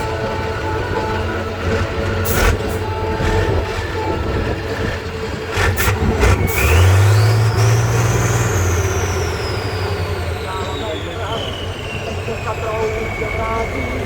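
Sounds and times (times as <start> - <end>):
truck engine running: 0.0 - 14.0
whistle rising in pitch: 0.0 - 14.0.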